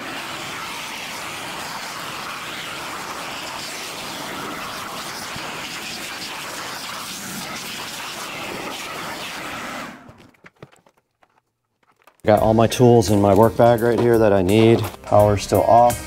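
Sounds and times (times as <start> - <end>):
shop vac running: 0.0 - 15.6.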